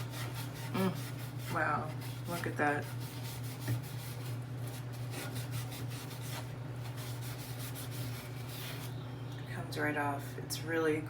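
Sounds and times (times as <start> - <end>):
sponge scrubbing stainless steel: 0.0 - 9.0.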